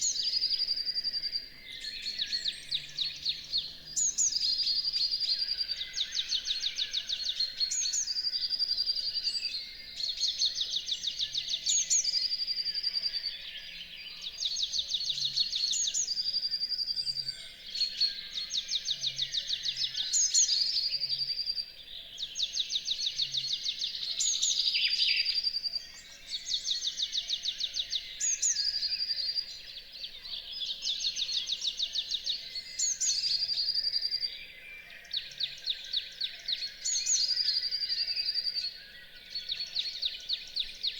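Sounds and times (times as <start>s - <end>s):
songbirds chorus: 0.0s - 40.9s.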